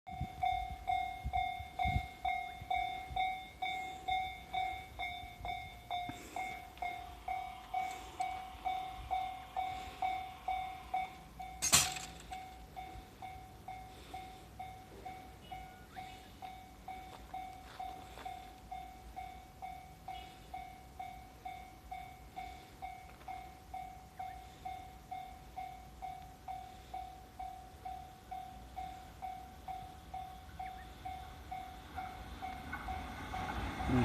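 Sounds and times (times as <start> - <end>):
level-crossing warning bell ringing: 0.1 - 34.0.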